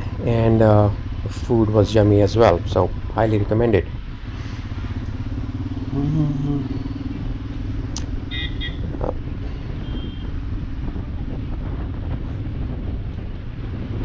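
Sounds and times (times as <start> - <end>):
motorcycle engine rumble: 0.0 - 14.0
wind on microphone: 0.0 - 14.0.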